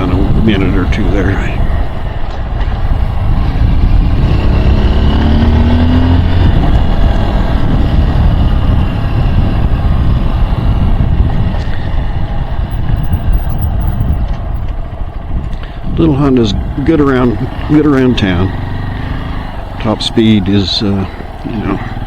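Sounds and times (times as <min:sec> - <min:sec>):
motorcycle engine accelerating: 0:00.0 - 0:22.0
wind rushing on microphone: 0:00.0 - 0:22.0.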